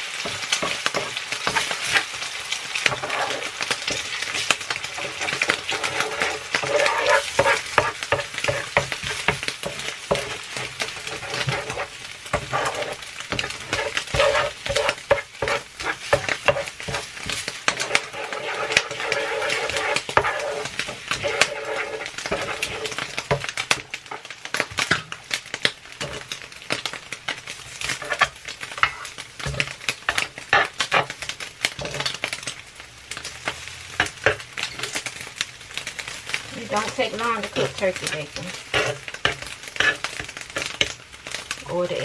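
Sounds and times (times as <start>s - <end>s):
food sizzling on a griddle: 0.0s - 42.0s
spatula scraping and tapping griddle: 0.2s - 2.1s, 2.8s - 35.2s, 36.6s - 41.5s.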